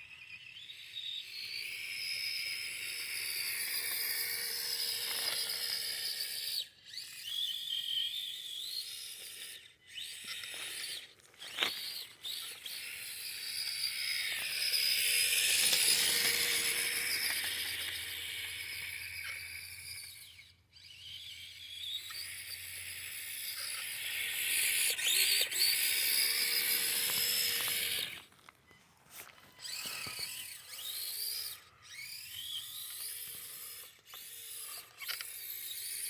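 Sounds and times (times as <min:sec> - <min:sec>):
small electric motor whining: 0:00.0 - 0:36.0.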